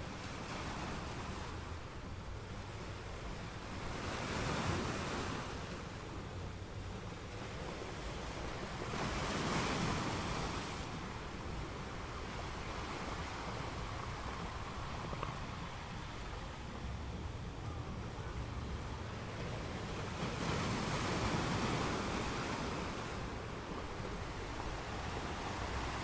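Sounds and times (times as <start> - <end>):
waves washing up a beach: 0.0 - 26.0.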